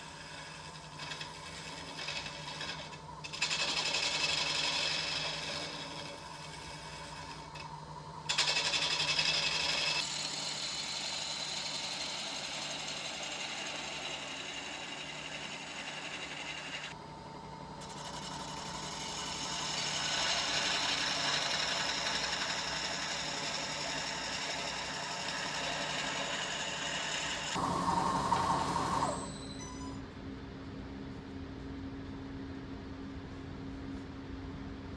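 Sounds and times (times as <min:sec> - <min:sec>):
power tool whirring on wood: 0:00.0 - 0:30.0.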